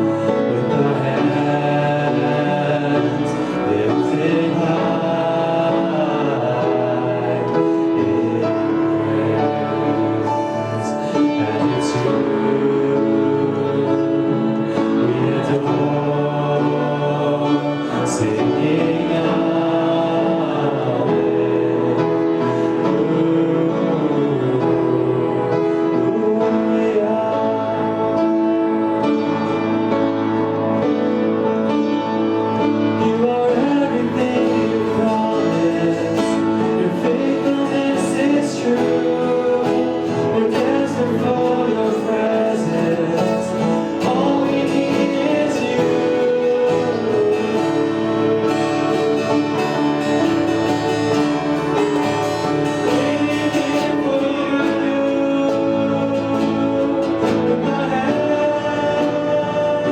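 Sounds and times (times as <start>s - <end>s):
person singing: 0.0s - 59.9s
worship band playing: 0.0s - 59.9s.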